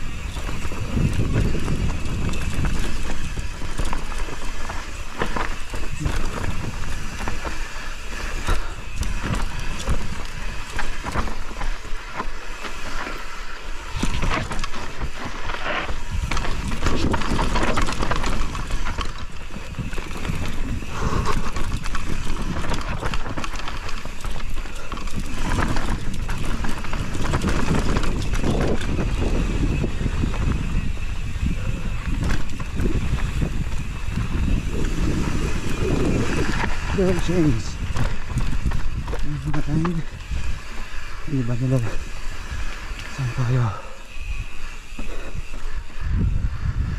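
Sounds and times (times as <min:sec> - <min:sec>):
wind on microphone: 0:00.0 - 0:12.2, 0:12.8 - 0:46.9
bike rattling over rocks: 0:00.0 - 0:46.9
bike tyre noise on dirt: 0:00.0 - 0:46.9.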